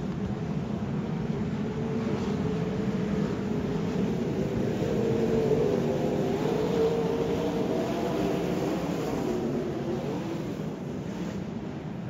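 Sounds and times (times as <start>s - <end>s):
racing car engines droning: 0.2s - 12.0s.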